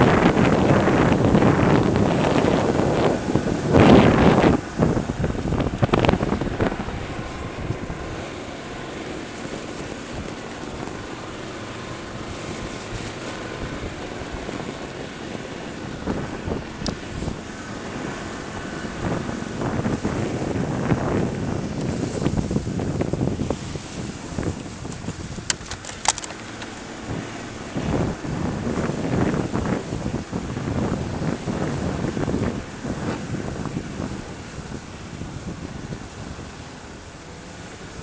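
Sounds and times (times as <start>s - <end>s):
diesel engine pulling through snow: 0.0s - 38.0s
wind on microphone: 0.0s - 38.0s.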